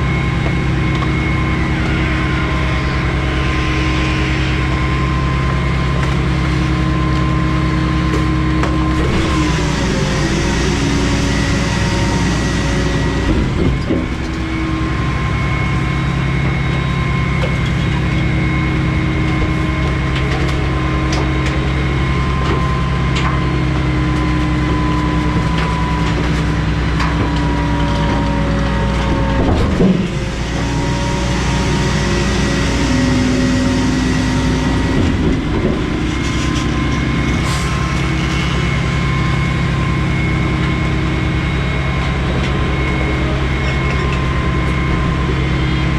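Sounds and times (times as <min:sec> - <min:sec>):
garbage truck engine and hydraulics: 0:00.0 - 0:45.9
multi-tone hydraulic whine: 0:00.0 - 0:45.9.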